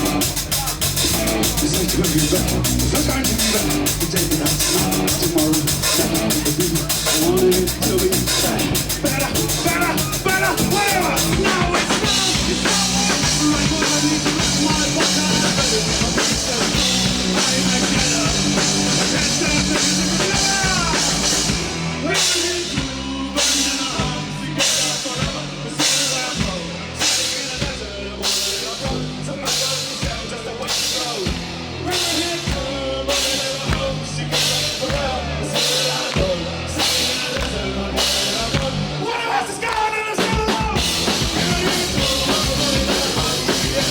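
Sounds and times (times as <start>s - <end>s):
drum kit: 0.0s - 43.9s
rock band playing live: 0.0s - 43.9s.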